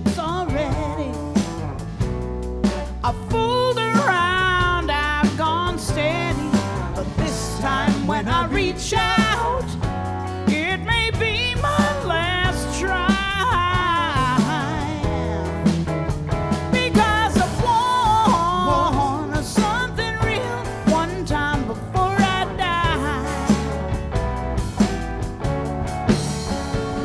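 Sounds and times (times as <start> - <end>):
woman singing: 0.0 - 1.8, 3.0 - 16.0, 16.6 - 24.0
bass line: 0.0 - 27.0
drum beats: 0.0 - 27.0.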